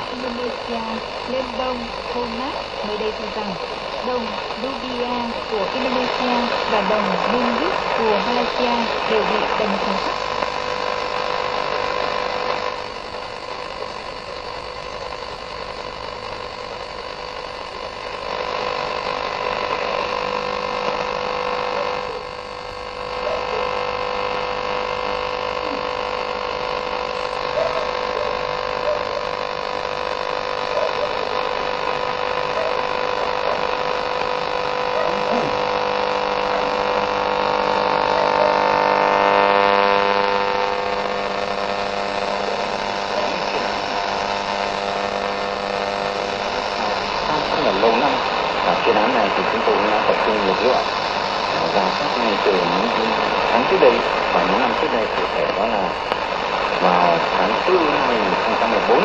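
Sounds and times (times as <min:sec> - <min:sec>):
radio static hiss: 0:00.0 - 0:59.0
radio whistles and hum: 0:00.0 - 0:59.0.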